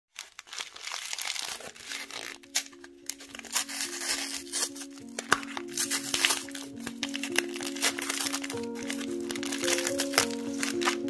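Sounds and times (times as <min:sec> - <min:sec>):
padded mailer crinkling: 0:00.1 - 0:11.0
soft background music: 0:00.8 - 0:11.0.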